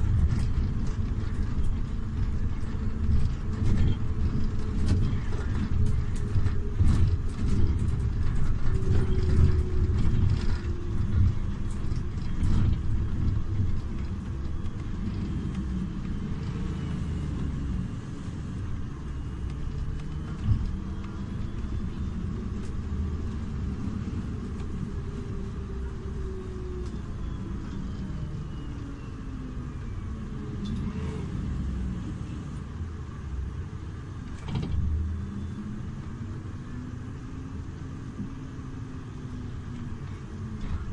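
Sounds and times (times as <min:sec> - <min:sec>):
bus engine low rumble: 0:00.0 - 0:40.9.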